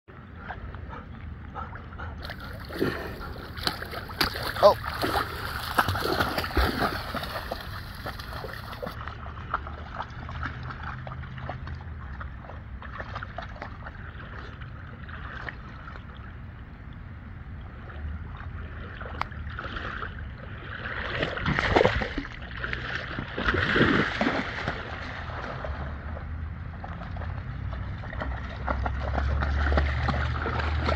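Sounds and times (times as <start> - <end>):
dog splashing through water: 2.2 - 16.1, 19.0 - 30.9.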